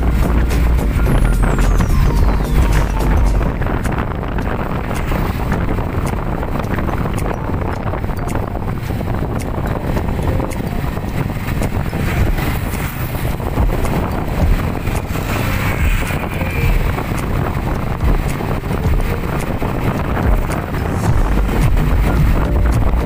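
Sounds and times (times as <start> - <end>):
vehicle engine and road noise: 0.0 - 23.0
wind on microphone: 0.0 - 23.0.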